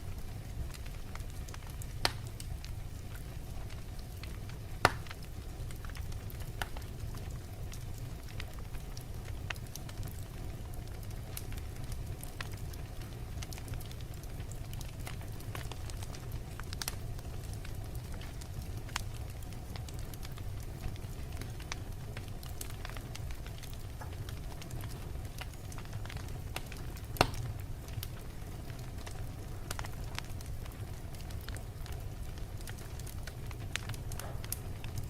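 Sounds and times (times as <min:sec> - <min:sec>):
fire popping: 0:00.0 - 0:35.0
low rumble of flames: 0:00.0 - 0:35.0
wood fire crackling: 0:00.0 - 0:35.0.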